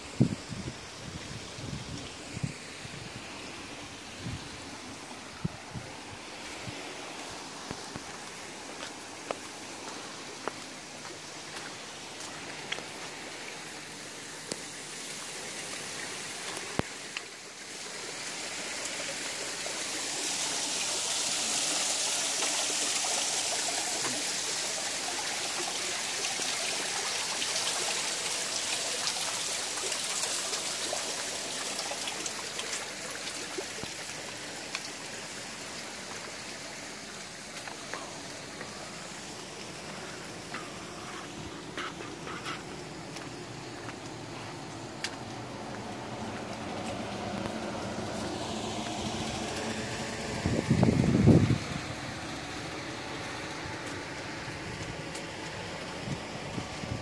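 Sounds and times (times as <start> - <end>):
running water hissing and splashing: 0.0 - 57.0.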